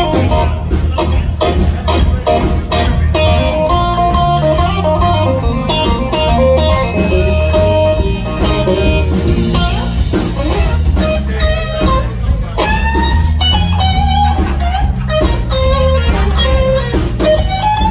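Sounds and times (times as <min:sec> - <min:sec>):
lead guitar held notes: 0:00.0 - 0:17.9
live rock band playing: 0:00.0 - 0:17.9.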